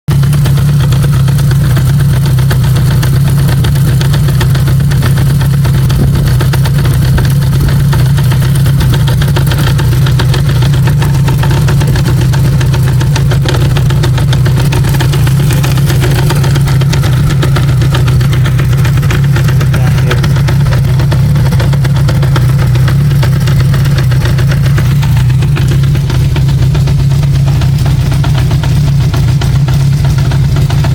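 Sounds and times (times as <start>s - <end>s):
engine knocking rattle: 0.1s - 30.9s
motorcycle engine idling: 0.1s - 30.9s.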